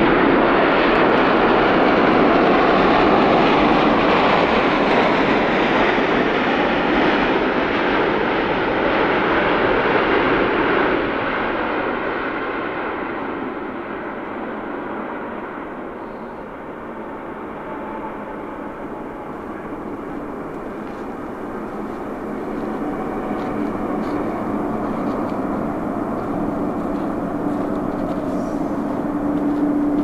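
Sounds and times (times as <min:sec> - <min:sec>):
jet aircraft engines running: 0:00.0 - 0:30.0.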